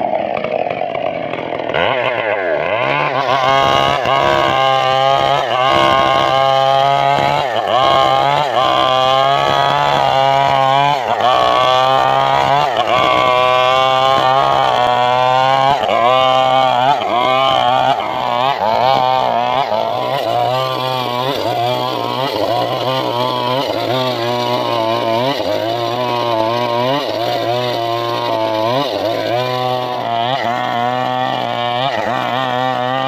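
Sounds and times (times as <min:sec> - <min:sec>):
chainsaw cutting through log: 0:00.0 - 0:33.0.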